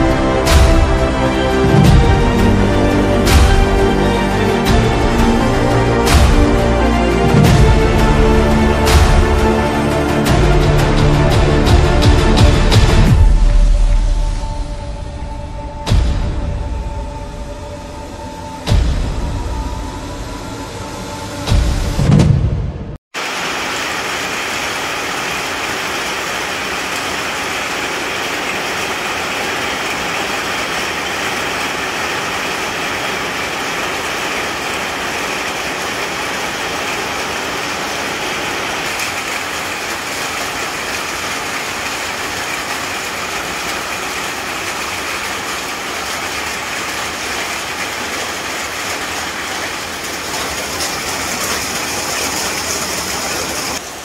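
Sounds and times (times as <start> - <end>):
heavy rain falling: 0.0 - 17.4, 23.1 - 54.0.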